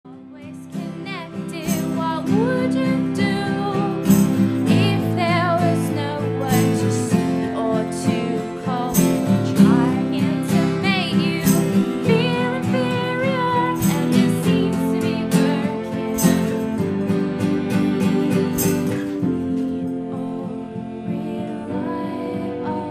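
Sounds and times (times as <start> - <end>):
woman singing with vibrato: 0.1 - 16.3, 19.2 - 22.9
strummed acoustic guitar: 0.1 - 22.9.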